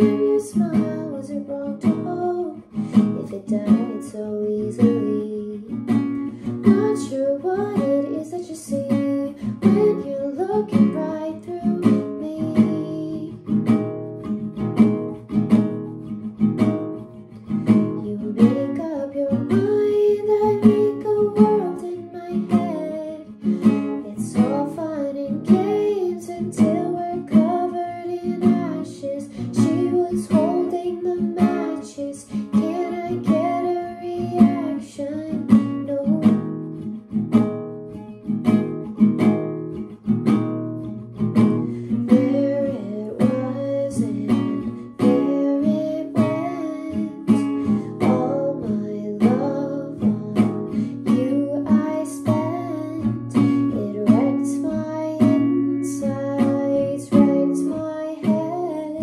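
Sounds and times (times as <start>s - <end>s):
woman singing: 0.0s - 15.8s, 16.6s - 59.0s
acoustic guitar strumming: 0.0s - 59.0s.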